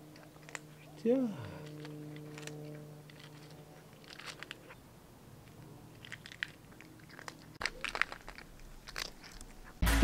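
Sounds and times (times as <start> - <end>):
cat chewing and smacking: 0.0 - 4.8, 5.4 - 9.8.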